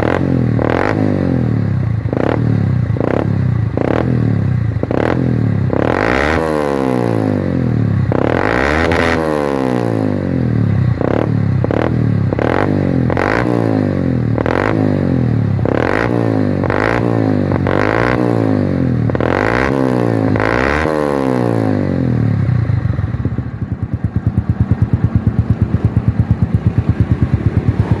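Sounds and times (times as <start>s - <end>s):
motorcycle engine revving and idling: 0.0s - 28.0s.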